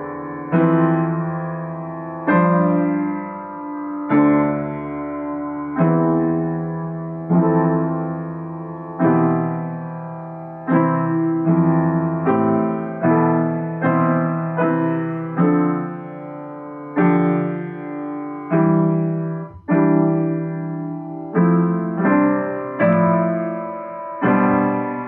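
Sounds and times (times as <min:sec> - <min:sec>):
slow solo piano chords: 0:00.0 - 0:25.0.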